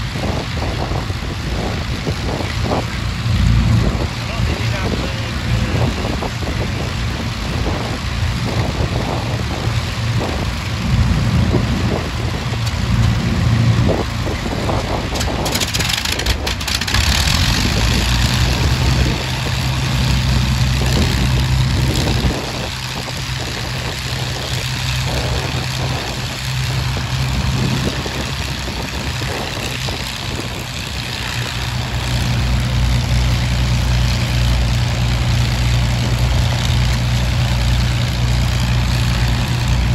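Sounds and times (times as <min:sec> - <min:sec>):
aircraft piston engines idling: 0:00.0 - 0:39.9
burst of rough engine noise: 0:00.0 - 0:39.9.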